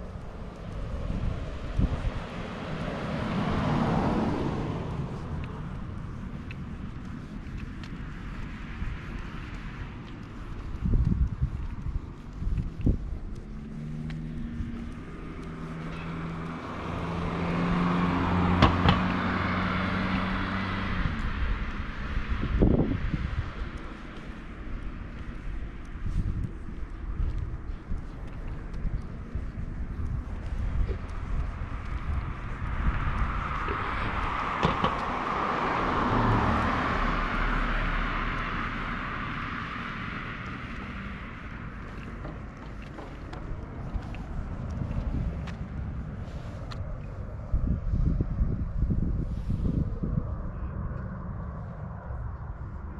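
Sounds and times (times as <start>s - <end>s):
car driving by: 0.8s - 8.8s, 13.4s - 25.4s, 30.0s - 52.9s.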